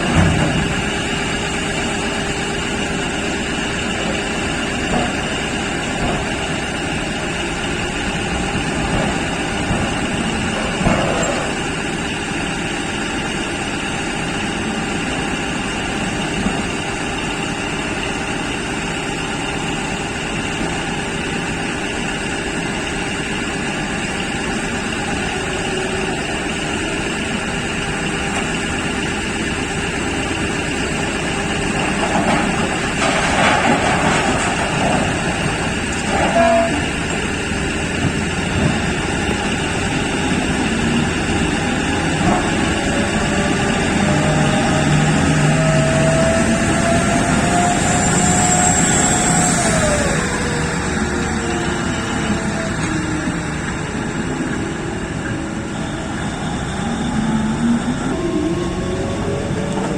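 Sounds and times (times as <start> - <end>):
mining machinery drone with whine: 0.0 - 59.9.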